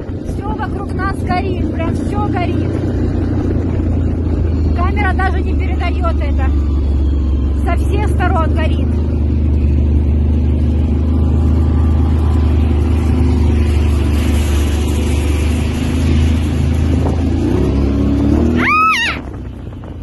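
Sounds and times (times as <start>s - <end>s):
vehicle engine humming: 0.0s - 20.0s
high-pitched rising and falling tone: 3.2s - 19.3s.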